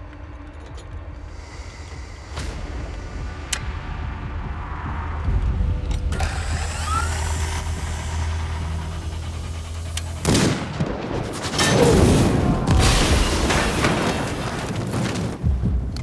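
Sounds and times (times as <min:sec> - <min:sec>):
low rumble: 0:00.0 - 0:13.8
gunfire and explosions: 0:00.0 - 0:16.0.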